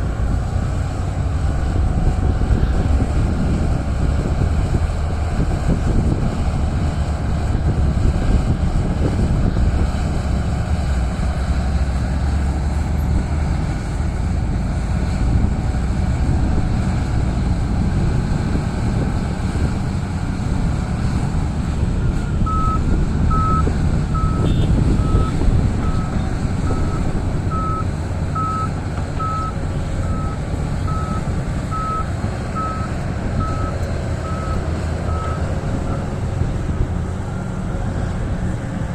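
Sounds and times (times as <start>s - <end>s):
diesel engines of heavy machinery: 0.0s - 38.9s.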